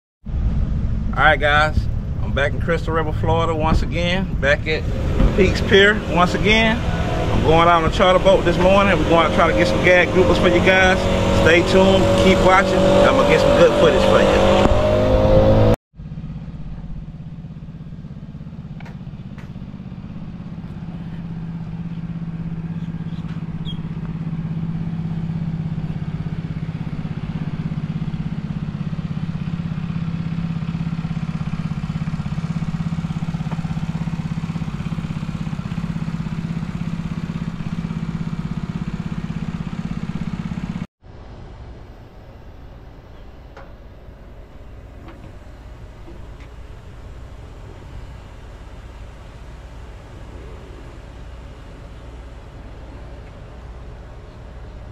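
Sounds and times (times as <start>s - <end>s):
low mechanical drone: 0.2s - 54.9s
quiet outdoor background: 0.2s - 54.9s.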